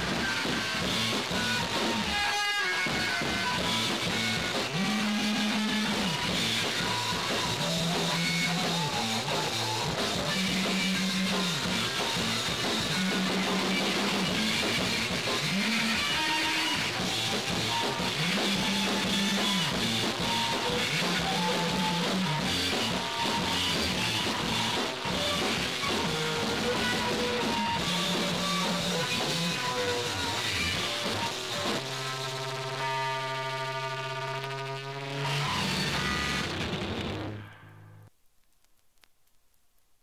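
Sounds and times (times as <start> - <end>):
distorted electric guitar: 0.0 - 38.1
drums: 0.0 - 38.2.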